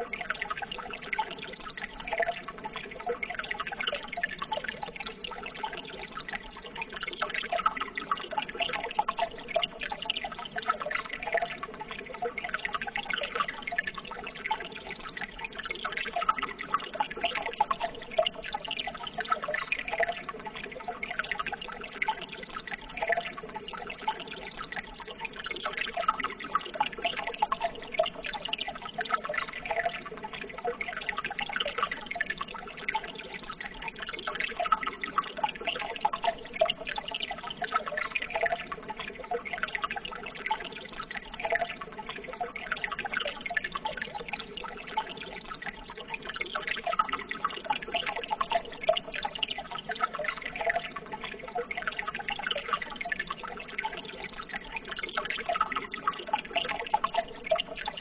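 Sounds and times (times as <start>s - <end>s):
water trickling and babbling: 0.0s - 58.0s.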